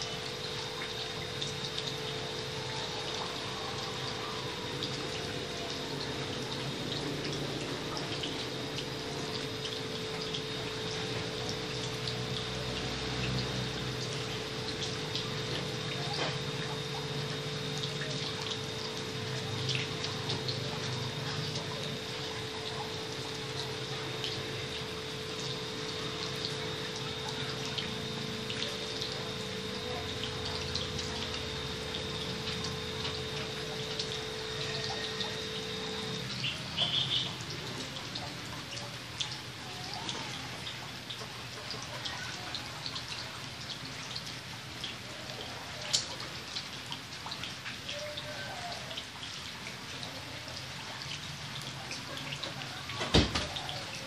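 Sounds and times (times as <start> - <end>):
refrigerant gurgling and hissing: 0.0 - 54.0
refrigeration system humming: 0.0 - 54.0.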